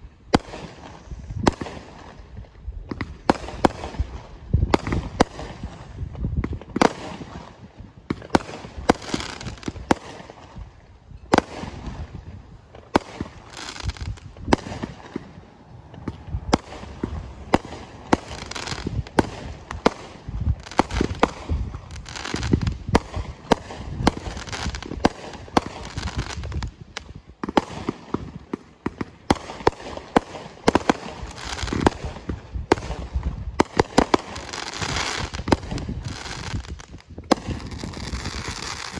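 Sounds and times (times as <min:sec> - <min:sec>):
firework bangs and bursts: 0:00.3 - 0:38.9
firework hiss and crackle: 0:00.3 - 0:38.9.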